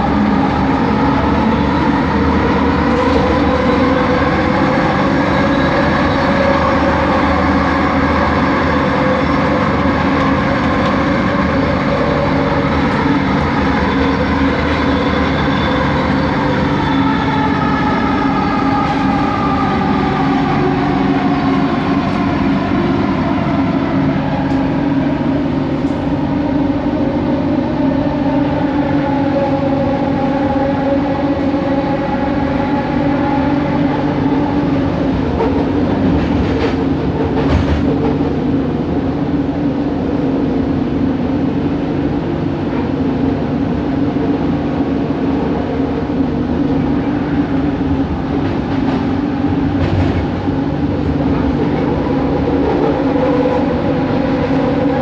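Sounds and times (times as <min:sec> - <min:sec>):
train rolling noise: 0:00.0 - 0:55.0.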